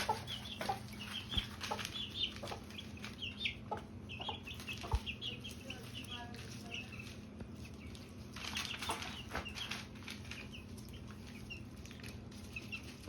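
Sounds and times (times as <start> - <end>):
ducklings peeping: 0.0 - 13.0
ducklings scuffling in water: 0.0 - 13.0.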